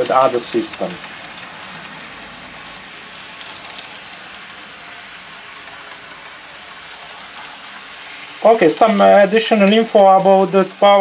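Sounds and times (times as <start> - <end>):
model trains whirring and rattling: 0.0 - 11.0.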